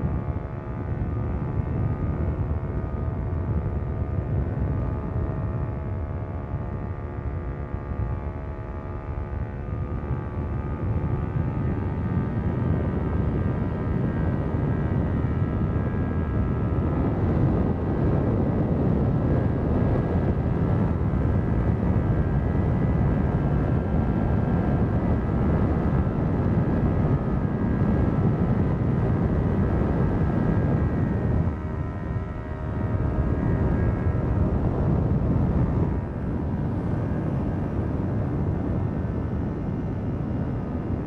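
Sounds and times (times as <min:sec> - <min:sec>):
motorcycle engine riding: 0:00.0 - 0:41.0.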